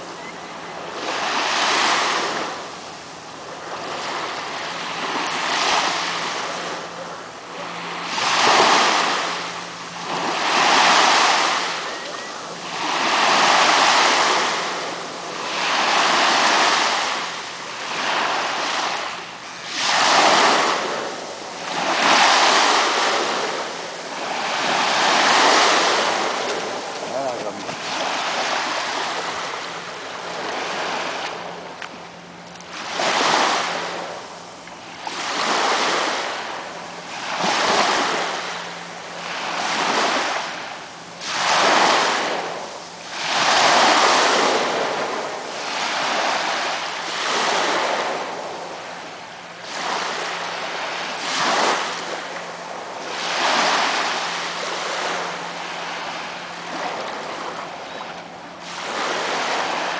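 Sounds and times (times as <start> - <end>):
small waves washing on sand: 0.0 - 59.9.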